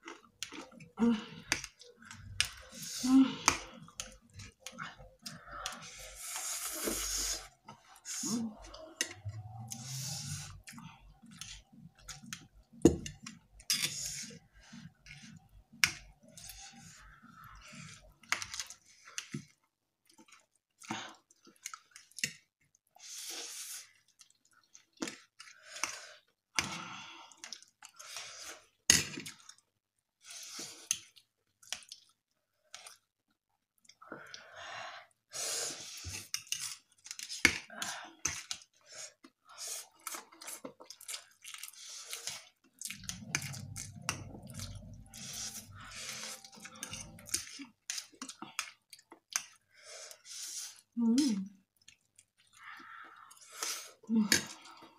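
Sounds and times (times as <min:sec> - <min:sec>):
people chewing: 0:00.0 - 0:33.1, 0:33.8 - 0:54.9.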